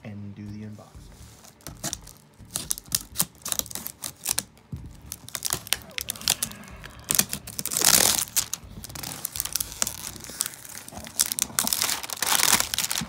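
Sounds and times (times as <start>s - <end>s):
plastic shrink wrap crinkling: 1.4s - 13.0s.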